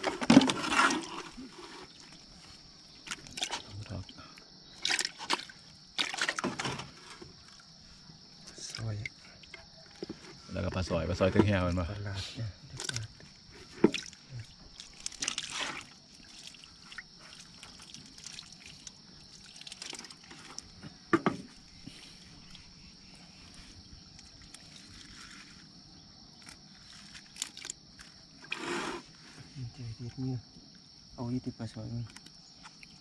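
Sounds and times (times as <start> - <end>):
water splashing and trickling: 0.0 - 29.2.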